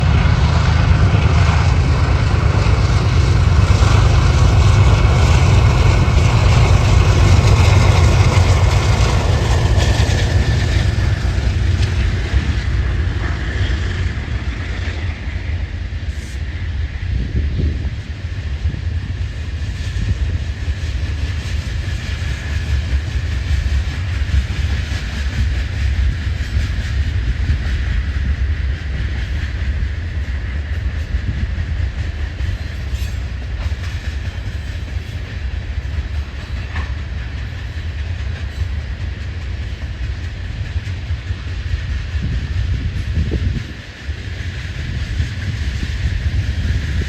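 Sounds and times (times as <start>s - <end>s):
rail noise: 0.0s - 47.0s
train rumbling past: 0.0s - 47.0s.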